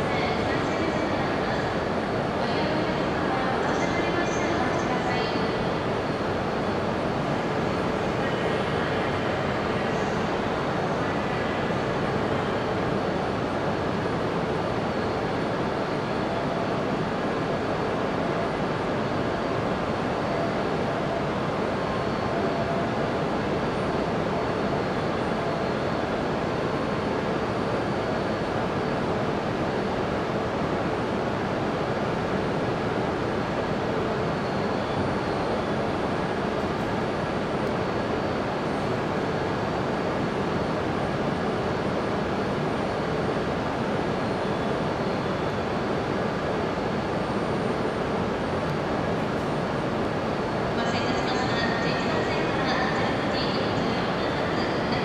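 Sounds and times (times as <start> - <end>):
standing train hum and hiss: 0.0 - 55.0.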